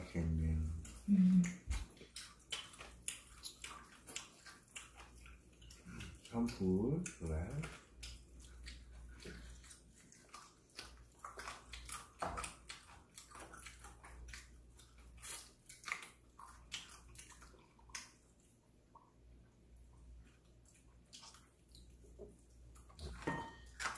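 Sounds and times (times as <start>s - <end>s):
people chewing crunchy food: 0.0s - 23.9s.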